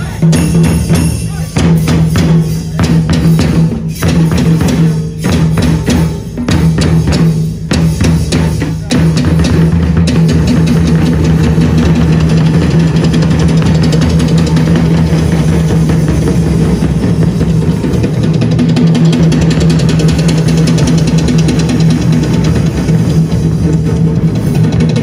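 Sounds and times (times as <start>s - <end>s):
drum kit playing: 0.0s - 25.0s
frame drums playing fast: 0.0s - 25.0s.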